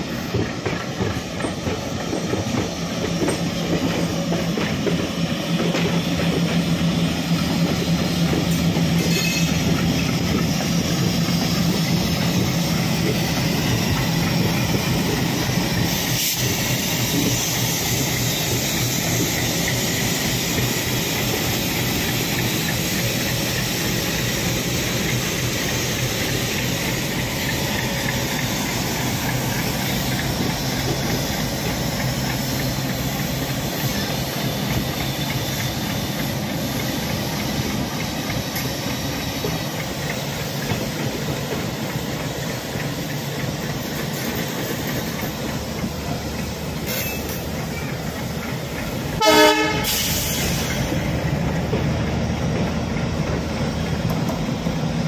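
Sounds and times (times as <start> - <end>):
clickety-clack over rail joints: 0.0 - 55.0
diesel locomotive engine hum: 0.0 - 55.0
train wheels rolling on rails: 0.0 - 55.0.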